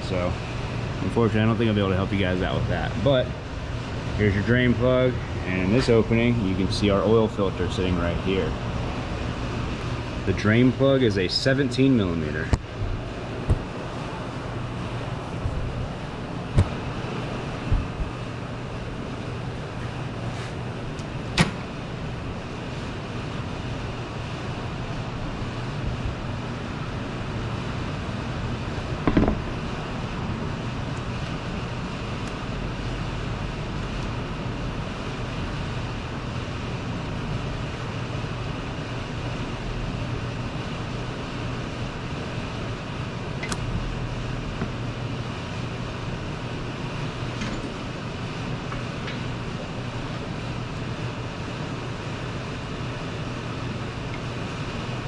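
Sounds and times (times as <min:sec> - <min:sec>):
steady background hum: 0:00.0 - 0:55.0.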